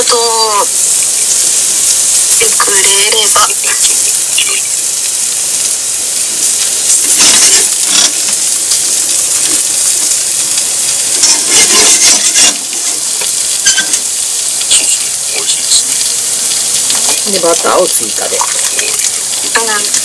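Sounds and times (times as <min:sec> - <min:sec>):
potatoes sizzling in frying pan: 0:00.0 - 0:20.0.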